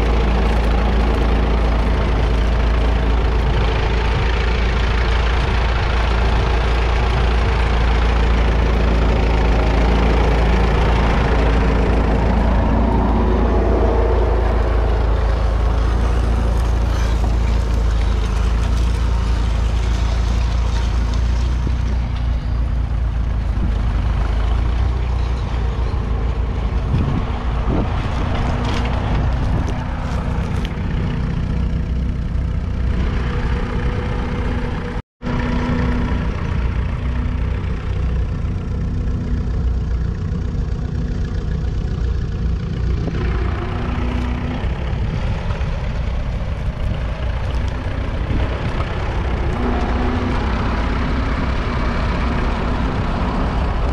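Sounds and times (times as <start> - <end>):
tractor engine running under load: 0.0 - 53.9.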